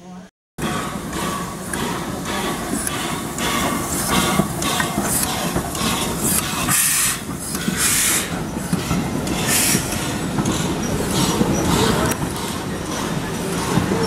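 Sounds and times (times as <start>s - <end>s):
steam locomotive exhaust puffs: 0.6s - 14.0s.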